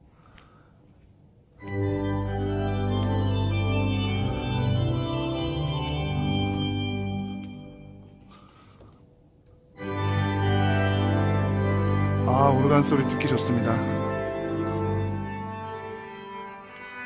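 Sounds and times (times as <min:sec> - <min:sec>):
pipe organ chords: 0:01.5 - 0:17.0.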